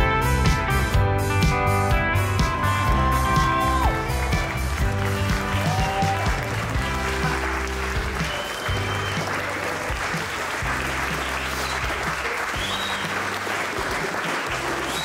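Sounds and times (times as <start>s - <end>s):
music with bass line: 0.0s - 13.4s
guests applauding: 2.2s - 15.0s.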